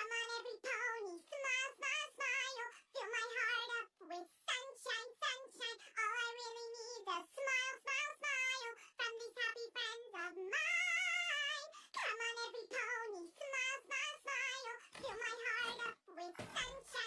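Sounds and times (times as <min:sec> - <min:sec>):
high-pitched voice singing: 0:00.0 - 0:17.0.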